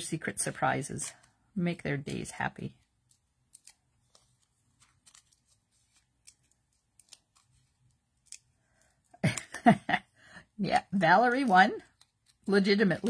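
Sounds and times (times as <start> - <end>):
paper strip clicks and rustles: 0.4 - 9.7, 10.7 - 13.0.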